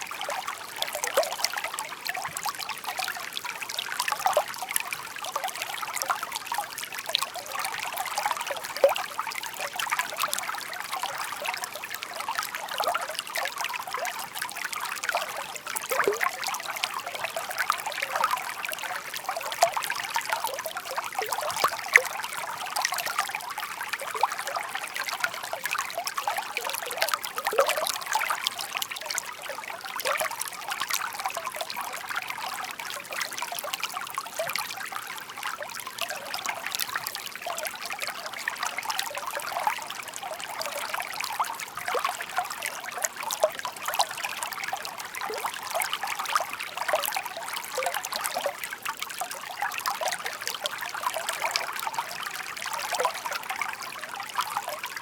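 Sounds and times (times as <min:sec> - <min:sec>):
babbling stream: 0:00.0 - 0:55.0.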